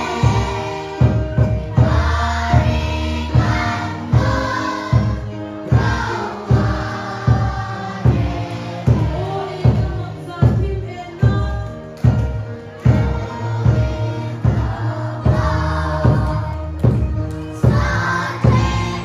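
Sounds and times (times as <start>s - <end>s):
group singing a hymn: 0.0s - 10.4s, 12.8s - 17.0s, 17.6s - 19.0s
low steady beat accompaniment: 0.0s - 19.0s.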